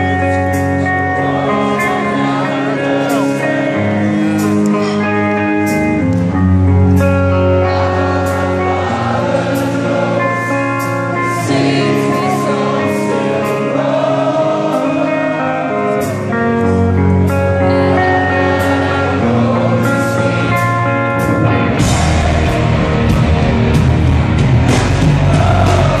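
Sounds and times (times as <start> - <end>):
crowd singing along: 0.0 - 26.0
rock band playing slow ballad: 0.0 - 26.0.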